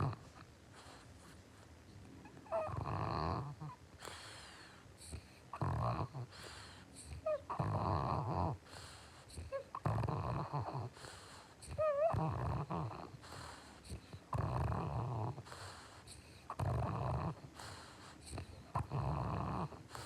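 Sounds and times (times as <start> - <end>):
dog snoring: 0.0 - 1.4, 2.3 - 20.0.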